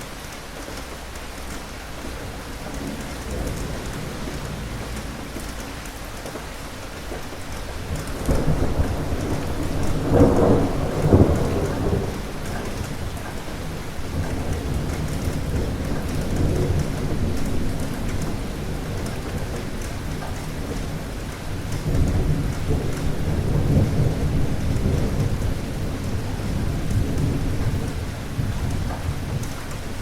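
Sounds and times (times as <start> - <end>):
steady rain: 0.0 - 30.0
thunder rolling: 1.0 - 30.0.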